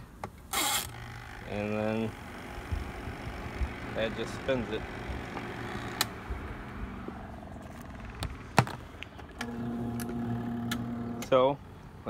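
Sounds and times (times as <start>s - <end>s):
electric motor hum: 0.6s - 8.6s, 9.2s - 11.3s.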